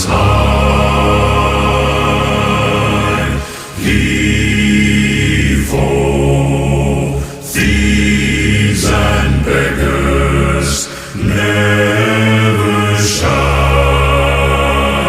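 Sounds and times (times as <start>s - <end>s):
low choir singing chant-like notes: 0.0s - 15.0s.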